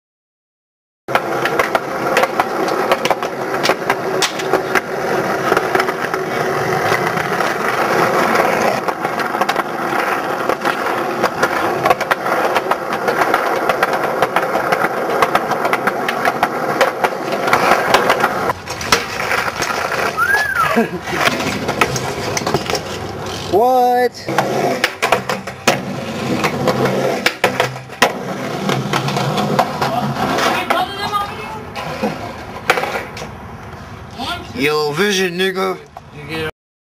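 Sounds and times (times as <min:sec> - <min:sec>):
skateboard wheels rolling on concrete: 0:01.1 - 0:36.5.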